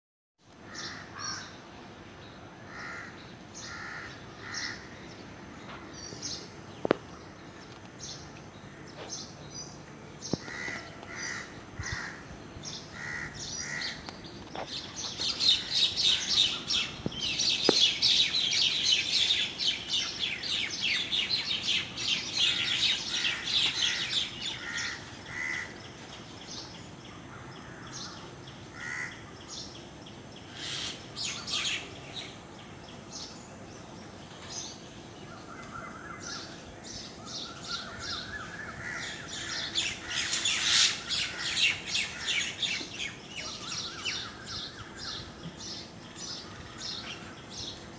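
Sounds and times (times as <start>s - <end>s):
birds calling: 0.5s - 47.9s.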